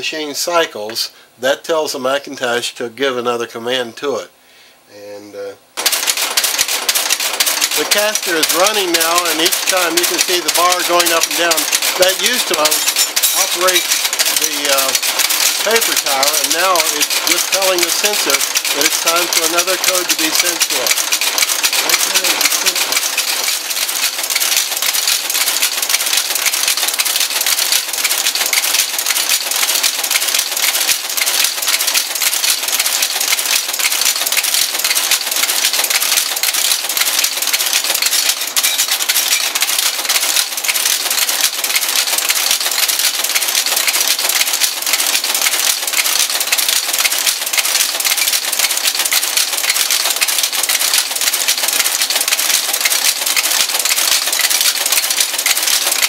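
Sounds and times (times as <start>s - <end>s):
type casting machine clattering: 5.8s - 56.0s.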